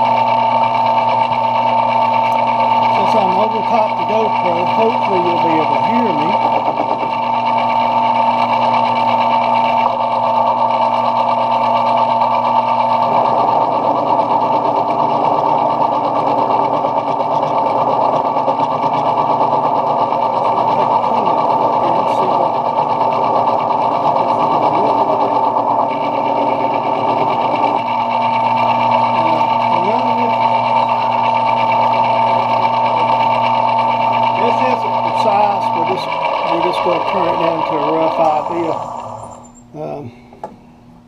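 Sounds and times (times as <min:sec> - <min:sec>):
metal lathe humming: 0:00.0 - 0:41.0.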